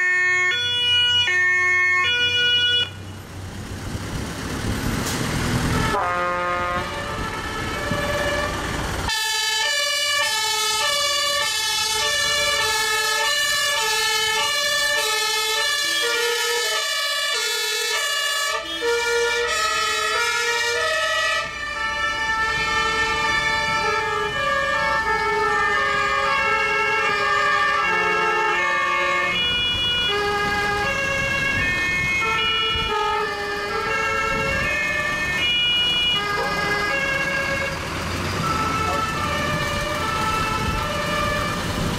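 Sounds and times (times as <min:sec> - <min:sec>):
two-tone sirens: 0:00.0 - 0:03.2, 0:05.4 - 0:41.9
truck engines running: 0:00.0 - 0:41.9.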